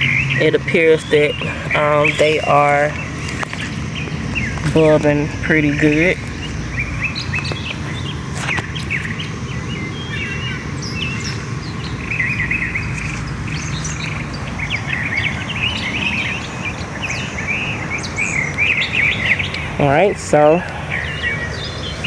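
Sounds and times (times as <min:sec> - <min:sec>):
low background hum: 0:00.0 - 0:22.0
songbirds chirping and trilling: 0:00.0 - 0:22.0.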